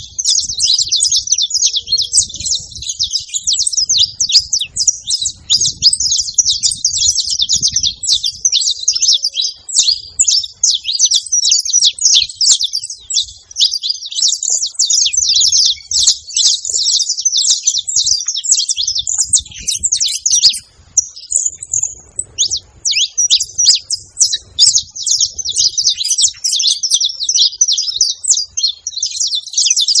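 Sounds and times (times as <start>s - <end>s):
finch singing high chirps: 0.0s - 30.0s.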